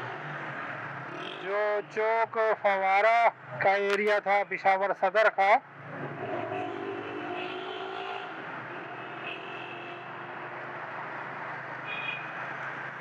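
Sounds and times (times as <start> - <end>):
other vehicles passing: 0.0 - 13.0
road and wind noise: 0.0 - 13.0.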